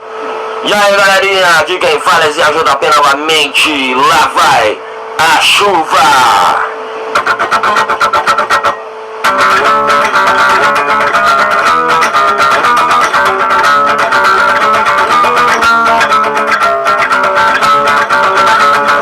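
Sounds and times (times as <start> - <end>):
heavy metal guitar strumming: 0.5 - 19.0.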